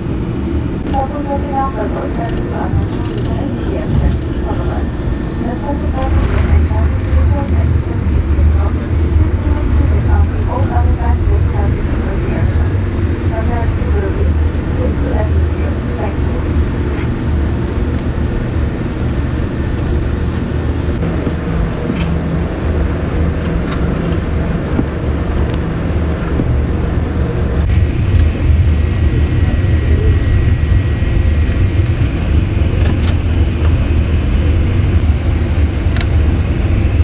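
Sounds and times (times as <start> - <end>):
airplane rolling on ground rumble: 0.0 - 37.0
steady high whine: 0.0 - 37.0.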